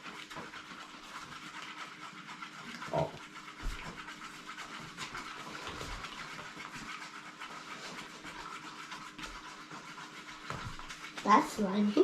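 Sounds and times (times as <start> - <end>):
slime stirred in a cup: 0.0 - 12.0.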